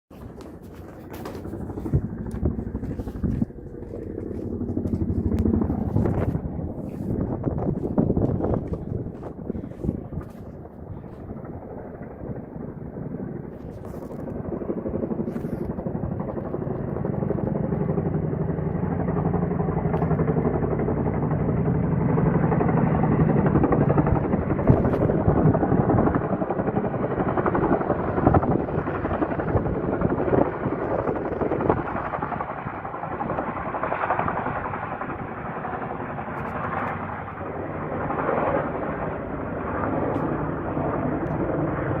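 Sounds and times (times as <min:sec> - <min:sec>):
helicopter rotor chopping: 0:00.1 - 0:42.0.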